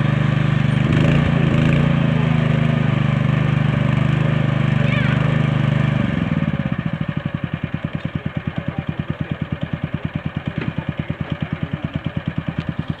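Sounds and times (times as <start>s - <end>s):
small petrol engine idling: 0.0s - 13.0s.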